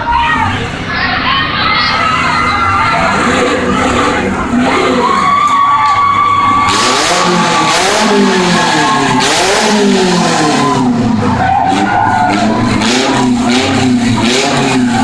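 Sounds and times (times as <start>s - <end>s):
car engines revving: 0.0s - 15.0s
wheels grinding and spinning: 0.0s - 15.0s.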